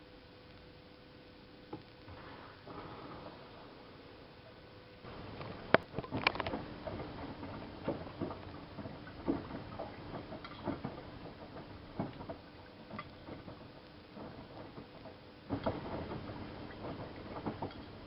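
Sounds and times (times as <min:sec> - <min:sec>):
faint steady hum: 0:00.0 - 0:18.0
laundry tumbling in washing machine: 0:02.1 - 0:04.3, 0:05.0 - 0:18.0.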